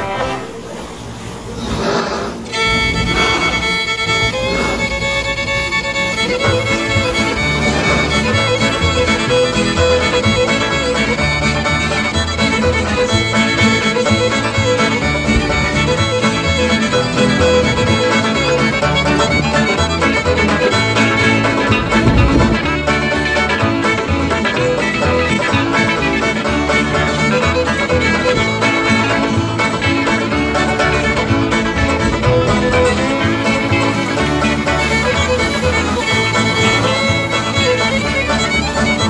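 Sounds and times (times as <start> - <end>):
fiddle-led bluegrass music: 0.0 - 39.0.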